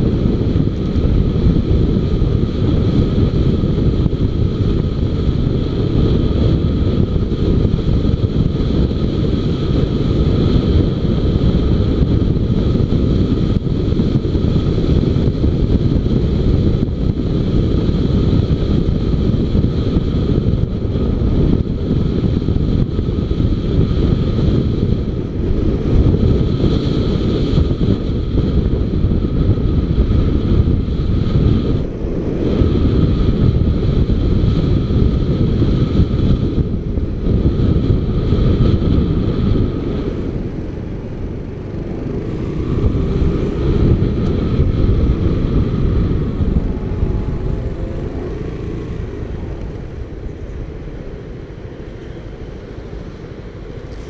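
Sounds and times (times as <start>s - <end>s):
motorcycle engine running: 0.0s - 54.0s
steady high whine: 0.0s - 54.0s
wind rumbling over microphone: 0.0s - 54.0s.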